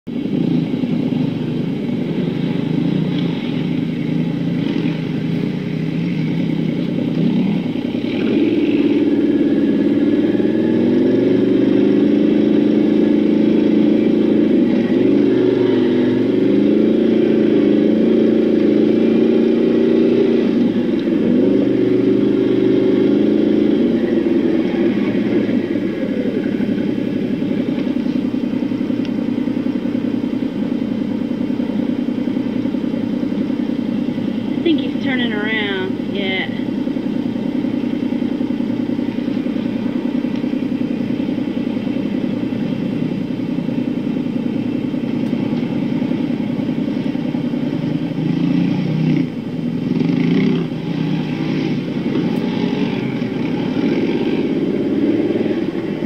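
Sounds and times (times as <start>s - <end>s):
atv engine running: 0.1s - 56.0s.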